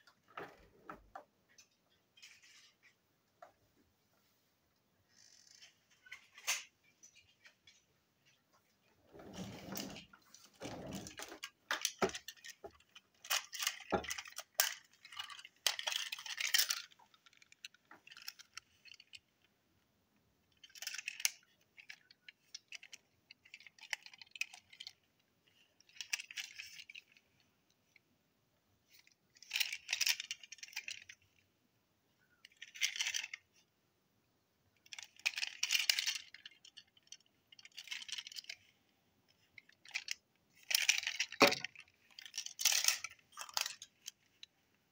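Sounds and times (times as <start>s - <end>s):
toy train wagons clicking and rattling: 1.5s - 2.9s, 5.1s - 8.4s, 9.4s - 28.1s, 28.8s - 31.5s, 32.3s - 33.7s, 34.7s - 44.8s.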